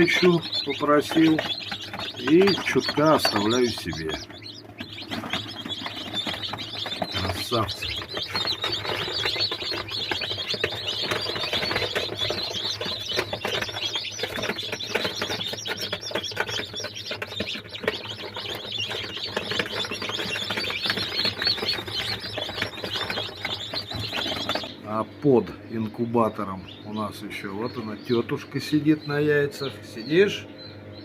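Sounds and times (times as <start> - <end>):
chicks peeping: 0.0 - 31.0
steady low hum: 0.0 - 31.0.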